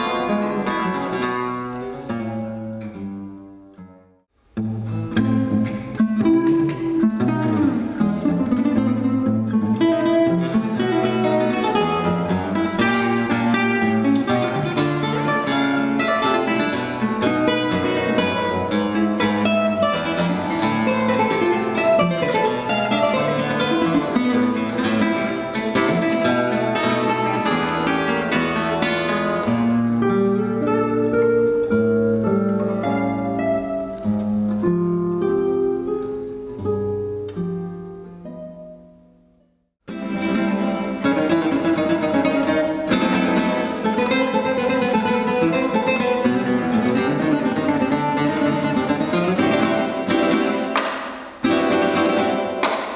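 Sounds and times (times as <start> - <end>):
classical guitar duet: 0.0 - 52.9.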